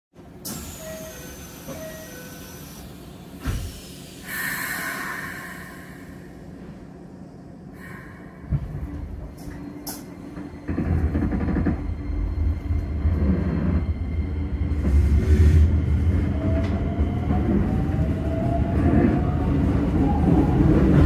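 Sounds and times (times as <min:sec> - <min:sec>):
train equipment hum: 0:00.2 - 0:21.0.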